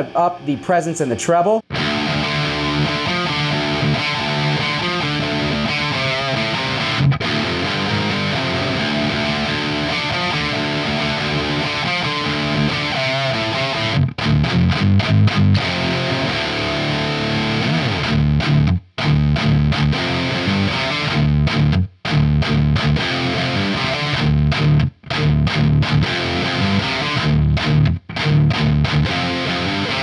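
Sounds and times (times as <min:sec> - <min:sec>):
distorted electric guitar riff: 0:00.0 - 0:30.0.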